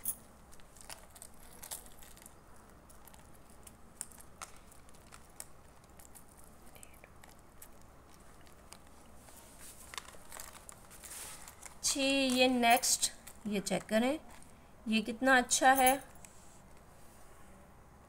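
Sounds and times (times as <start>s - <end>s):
light clicks and handling noises: 0.0s - 14.6s
low room hum: 0.0s - 18.0s.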